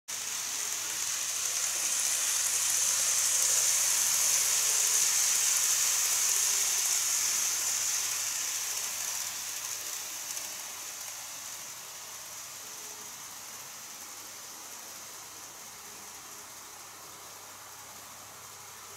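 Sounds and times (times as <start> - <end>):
model train motor whirring: 0.1 - 18.9.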